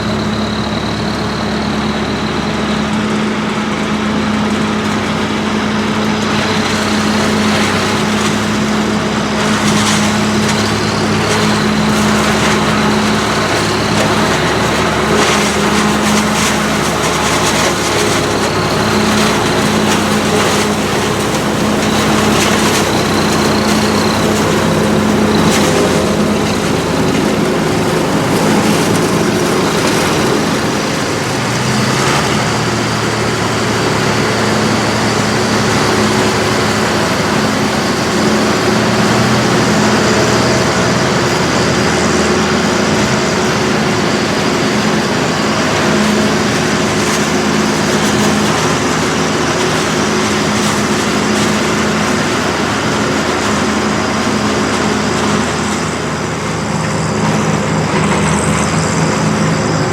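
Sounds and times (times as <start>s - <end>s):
rush of harvesting machinery: 0.0s - 59.9s
tractor engine running under load: 0.0s - 59.9s.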